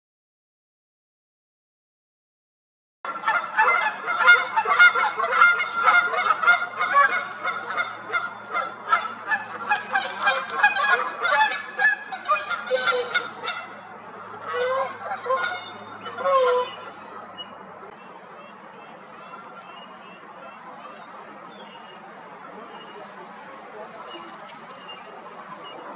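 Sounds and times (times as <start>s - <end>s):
geese honking: 3.1s - 25.9s.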